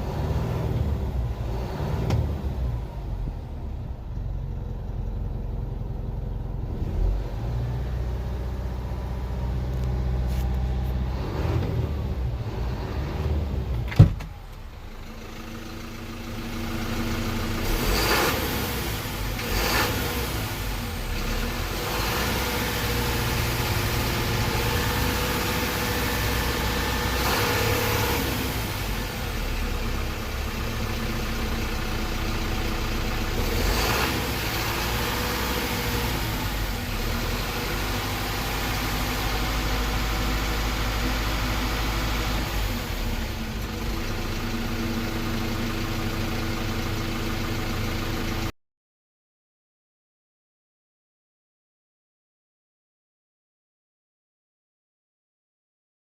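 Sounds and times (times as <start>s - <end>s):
diesel engine running: 0.0s - 48.5s.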